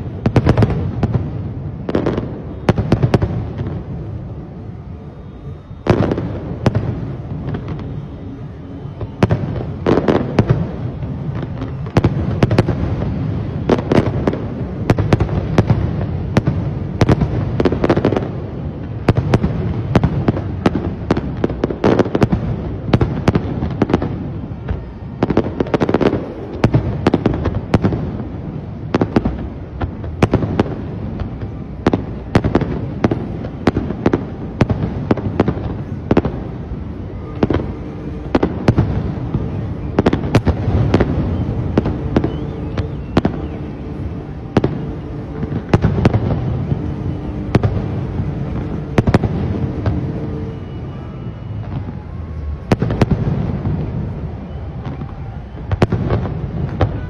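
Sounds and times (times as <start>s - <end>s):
firework bangs: 0.0s - 57.0s.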